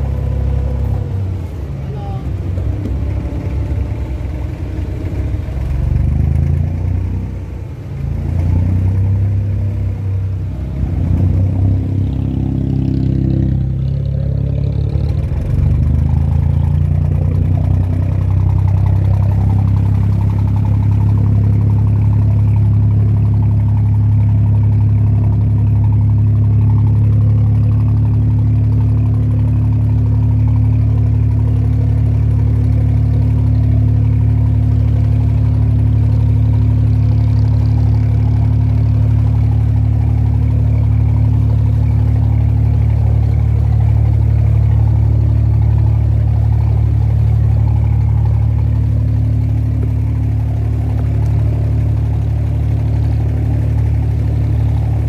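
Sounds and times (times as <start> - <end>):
boat diesel engine running: 0.0 - 55.0.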